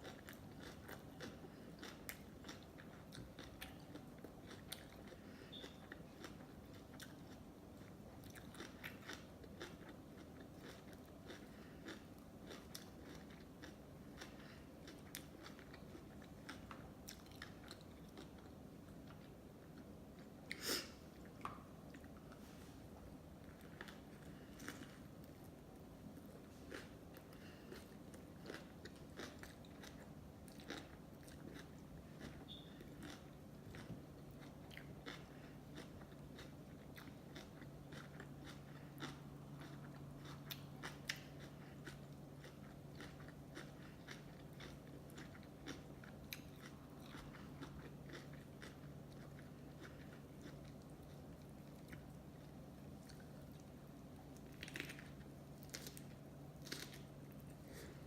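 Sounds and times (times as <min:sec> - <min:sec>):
wet chewing sounds: 0:00.0 - 0:20.6, 0:23.4 - 0:58.0.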